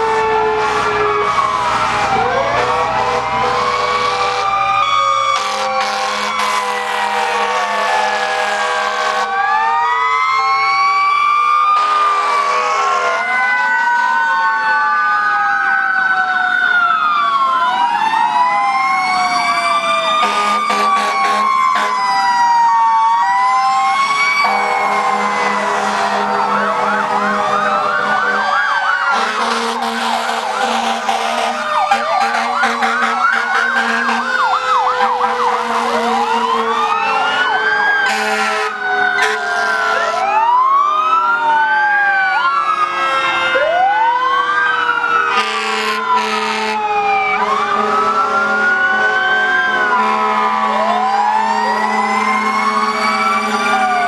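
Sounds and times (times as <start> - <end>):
fire truck sirens wailing: 0.0 - 54.0.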